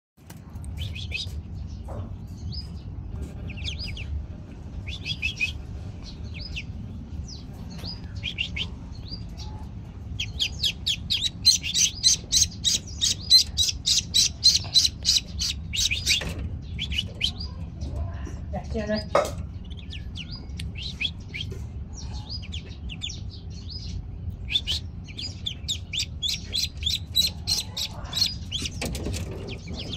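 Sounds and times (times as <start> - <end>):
ducklings peeping: 0.3 - 29.9.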